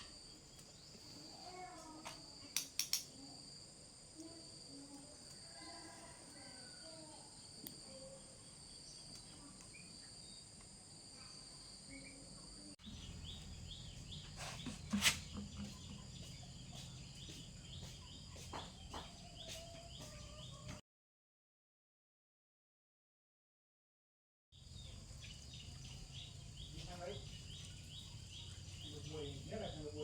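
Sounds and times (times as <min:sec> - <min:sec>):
insects trilling: 0:00.0 - 0:20.1, 0:24.6 - 0:30.0.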